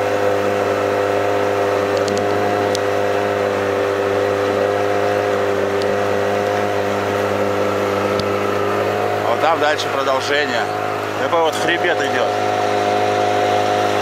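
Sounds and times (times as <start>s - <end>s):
motorboat engine running: 0.0s - 14.0s.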